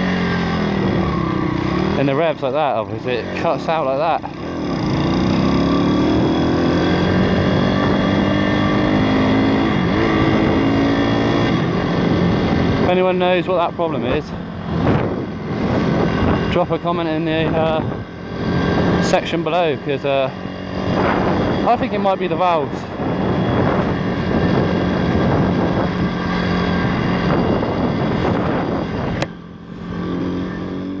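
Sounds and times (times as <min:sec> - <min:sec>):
motorbike engine revving high: 0:00.0 - 0:31.0
wind and road noise: 0:00.0 - 0:31.0.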